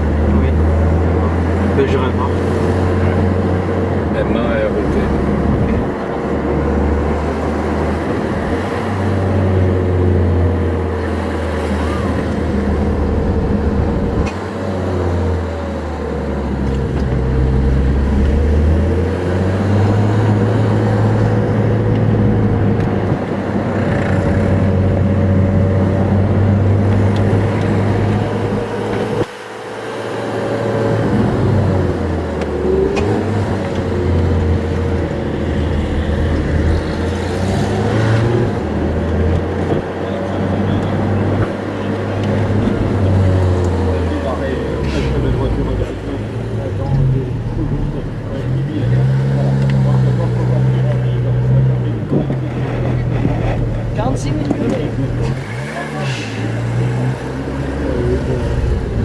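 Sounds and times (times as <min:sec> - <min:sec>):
car engine from inside cabin: 0:00.0 - 0:59.0
road and tyre noise: 0:00.0 - 0:59.0.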